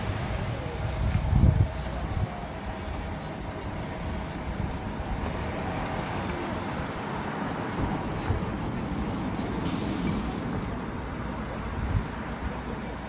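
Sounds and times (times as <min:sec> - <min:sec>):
car passing with tyre hiss: 0:00.0 - 0:13.0
street noise low rumble: 0:00.0 - 0:13.0.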